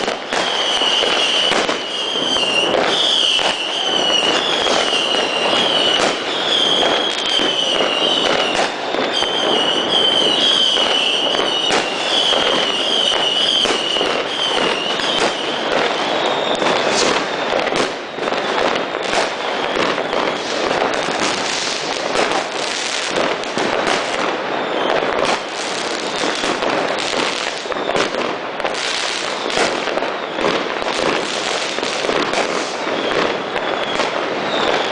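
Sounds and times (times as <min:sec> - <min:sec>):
fireworks banging and crackling: 0:00.0 - 0:34.9.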